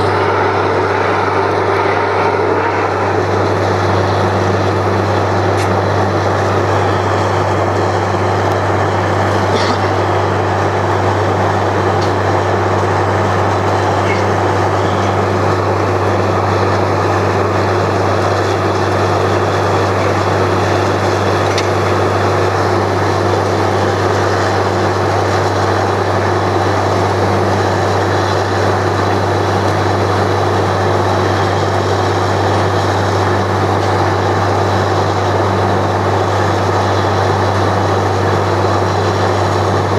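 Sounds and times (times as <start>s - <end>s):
drilling rig engine drone: 0.0s - 39.9s
rushing mechanical drilling noise: 0.0s - 39.9s.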